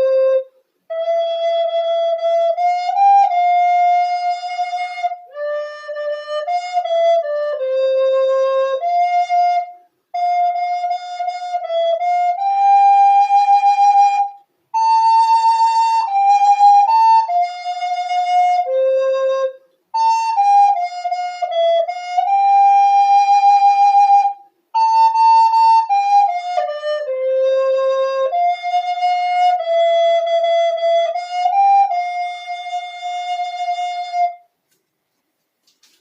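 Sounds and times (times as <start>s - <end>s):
flute-like hymn melody: 0.0s - 34.6s.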